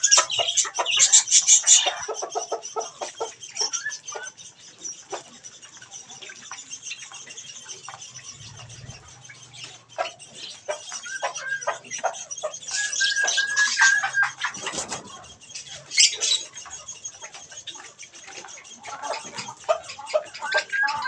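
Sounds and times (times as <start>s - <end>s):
beaks pecking and tapping: 0.0s - 21.0s
budgerigars chattering and chirping: 0.0s - 21.0s.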